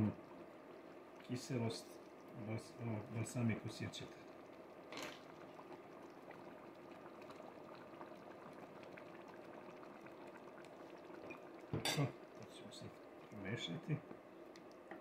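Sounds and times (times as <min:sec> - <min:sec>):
pot bubbling with ticking pops: 0:00.0 - 0:15.0.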